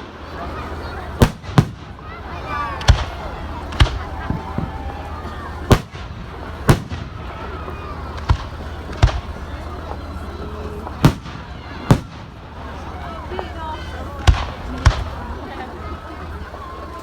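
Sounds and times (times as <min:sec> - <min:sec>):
firework shells exploding: 0:00.0 - 0:13.5, 0:14.2 - 0:15.4
faint crowd voices: 0:00.0 - 0:17.0.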